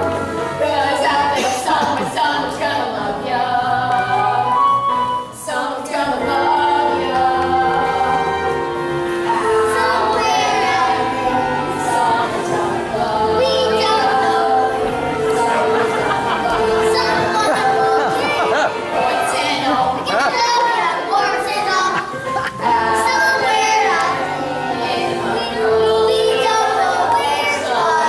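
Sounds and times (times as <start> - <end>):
young performers singing together: 0.0 - 28.0.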